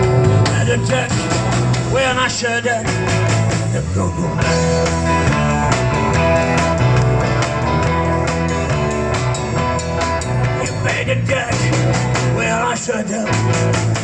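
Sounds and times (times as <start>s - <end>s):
rock band music: 0.0s - 14.0s.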